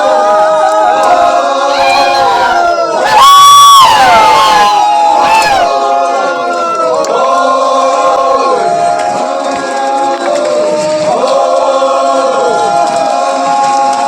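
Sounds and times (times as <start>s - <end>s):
group of people chanting: 0.0s - 14.0s.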